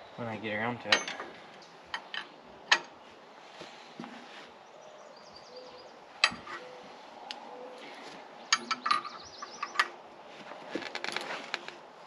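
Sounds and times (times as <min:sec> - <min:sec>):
faint birds chirping: 0:00.0 - 0:10.6.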